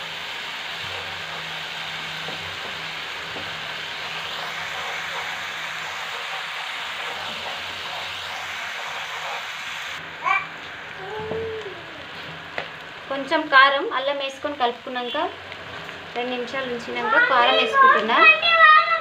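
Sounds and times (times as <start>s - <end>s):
paste sizzling in hot oil: 0.0s - 18.6s.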